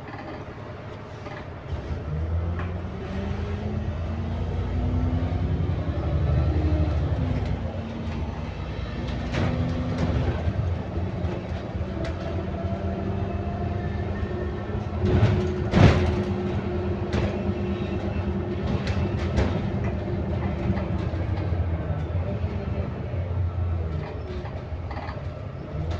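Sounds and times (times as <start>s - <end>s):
bus engine running: 0.0s - 25.9s.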